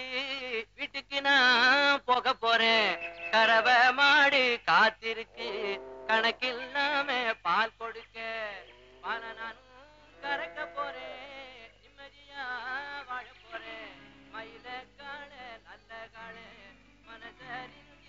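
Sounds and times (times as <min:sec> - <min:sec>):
song with singing voice: 0:00.0 - 0:18.0.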